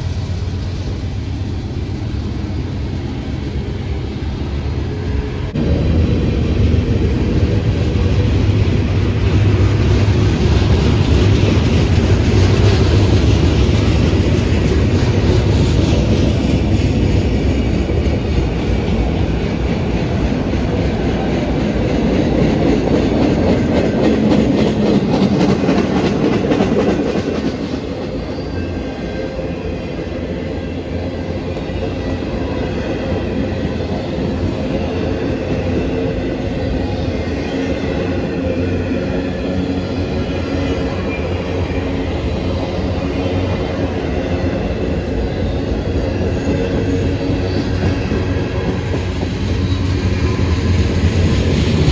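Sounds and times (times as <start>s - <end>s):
freight train wheels clicking: 0.0s - 51.9s.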